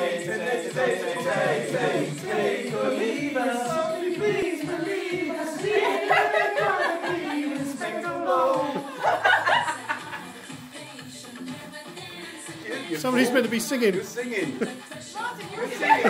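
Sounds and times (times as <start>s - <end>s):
backing track with steady beat: 0.0s - 16.0s
people singing karaoke: 0.0s - 16.0s.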